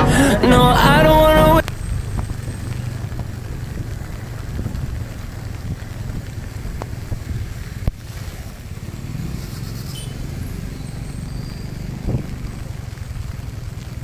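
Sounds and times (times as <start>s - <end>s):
motor vehicle rumbling: 0.0s - 14.0s.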